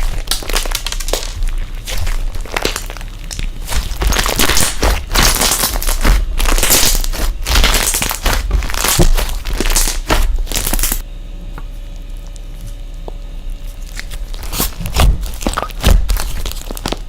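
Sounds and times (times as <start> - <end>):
slime squeezed crackling: 0.0 - 11.0, 12.0 - 17.0.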